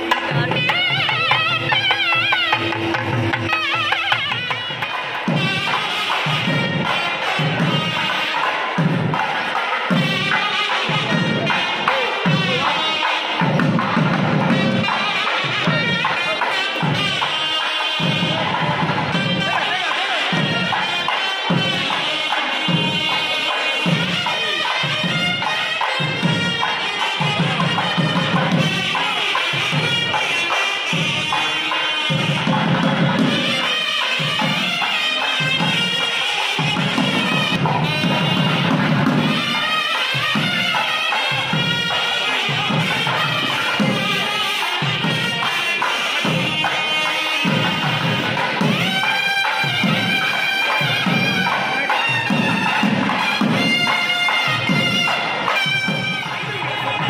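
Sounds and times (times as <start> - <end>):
drum strokes: 0.0 - 57.0
reedy wind instrument melody: 0.0 - 57.0.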